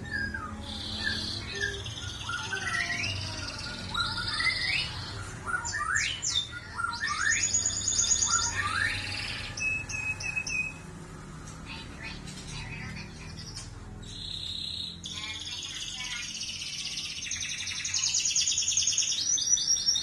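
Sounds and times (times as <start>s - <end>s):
canary singing with trills: 0.0s - 20.0s.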